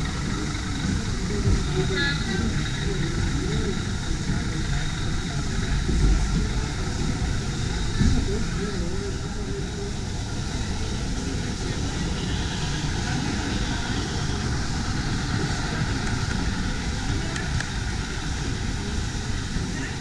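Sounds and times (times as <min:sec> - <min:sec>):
crowd hubbub: 0:00.0 - 0:20.0.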